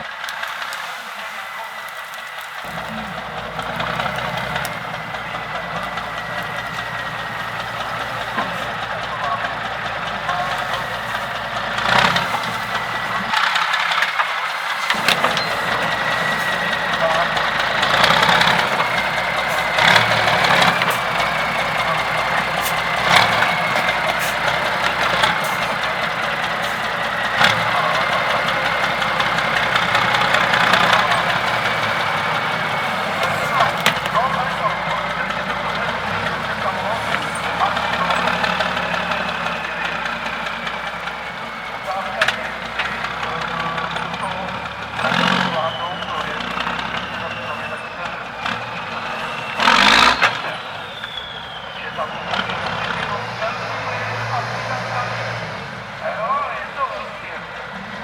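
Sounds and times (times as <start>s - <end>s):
diesel engine rumble: 0.0s - 58.0s.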